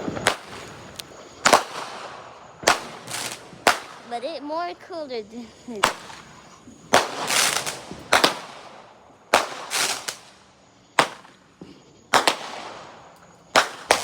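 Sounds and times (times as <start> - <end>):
firework bangs: 0.0 - 14.0.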